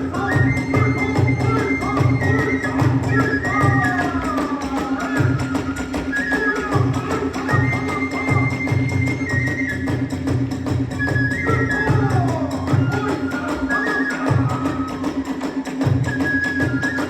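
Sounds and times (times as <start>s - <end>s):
bamboo flute high notes: 0.0s - 17.0s
sharp percussion strikes: 0.0s - 17.0s.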